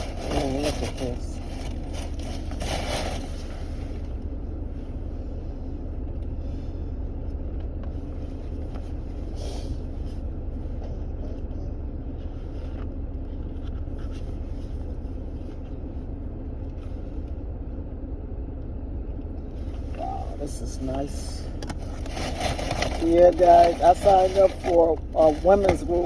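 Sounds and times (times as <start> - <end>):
car cabin engine rumble: 0.0 - 26.0.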